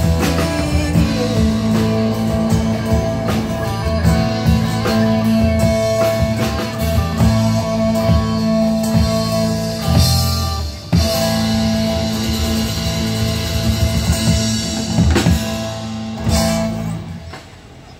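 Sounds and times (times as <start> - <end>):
live rock band playing: 0.0 - 17.8.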